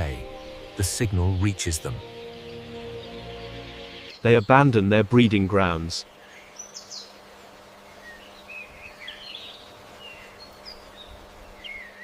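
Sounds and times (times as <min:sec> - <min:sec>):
background hiss: 0:00.0 - 0:12.0
small birds chirping: 0:00.0 - 0:12.0.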